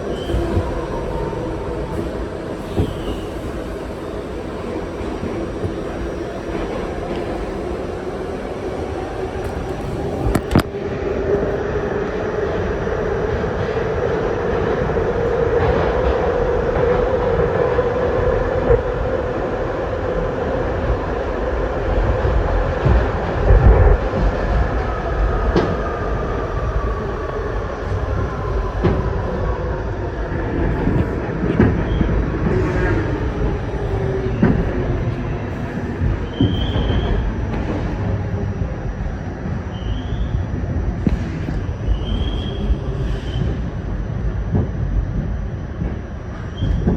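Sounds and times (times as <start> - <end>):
subway train rumble: 0.0 - 46.9.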